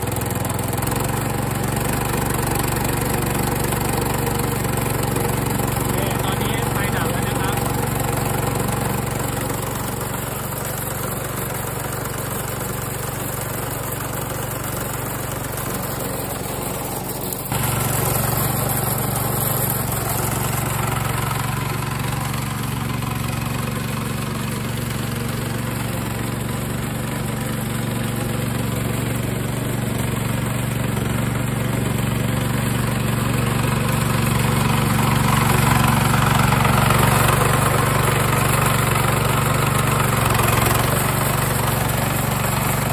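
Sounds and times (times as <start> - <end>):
small petrol engine running: 0.0 - 42.9.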